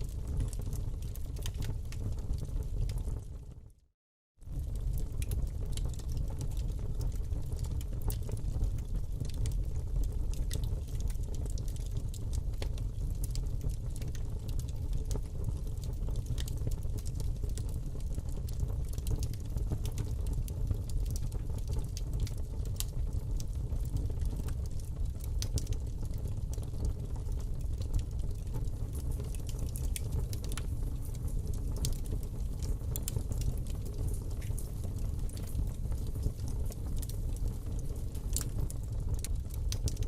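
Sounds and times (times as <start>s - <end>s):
wood fire crackling: 0.0s - 3.7s, 4.4s - 40.0s
low rumble of flames: 0.0s - 40.0s.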